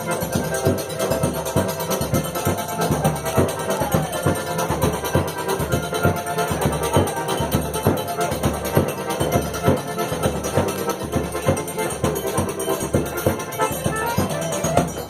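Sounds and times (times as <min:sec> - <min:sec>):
dance music with percussion: 0:00.0 - 0:15.0.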